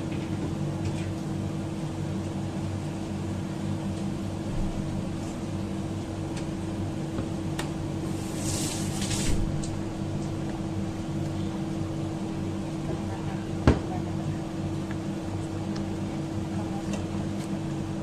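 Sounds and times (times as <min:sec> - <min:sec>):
steady mechanical hum: 0:00.0 - 0:18.0
water boiling in a pot: 0:00.0 - 0:18.0.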